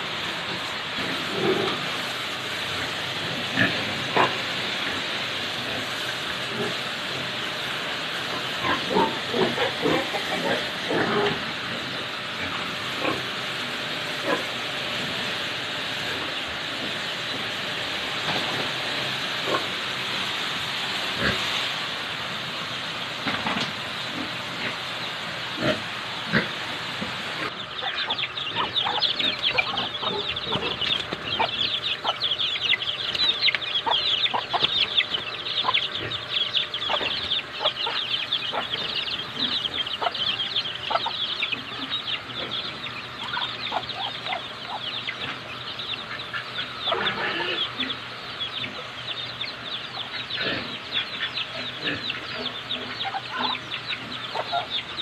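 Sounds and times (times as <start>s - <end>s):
poultry chirping and clucking: 0.0s - 55.0s.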